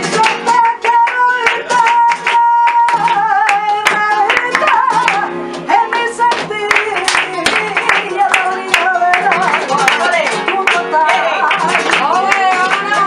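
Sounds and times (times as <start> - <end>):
rhythmic handclaps: 0.0 - 13.0.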